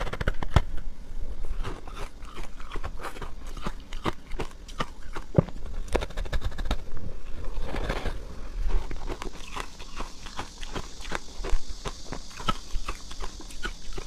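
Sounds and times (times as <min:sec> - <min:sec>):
ice grinding crunch: 0:01.5 - 0:06.4, 0:07.6 - 0:14.0.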